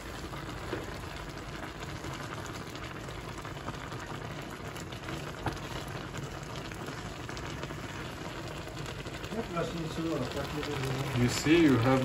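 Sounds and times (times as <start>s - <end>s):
crackles: 0.0s - 12.0s
water and rice boiling: 0.0s - 12.0s.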